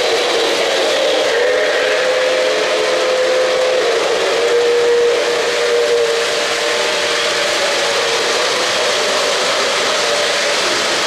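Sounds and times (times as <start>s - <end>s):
metal wheels rolling on track: 0.0s - 11.0s
model train steam whistle: 0.0s - 11.0s.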